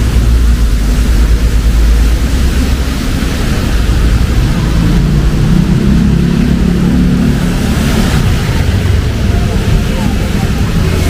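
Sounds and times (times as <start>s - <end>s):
rain hiss: 0.0s - 11.0s
rumble of vehicle engines: 0.0s - 11.0s.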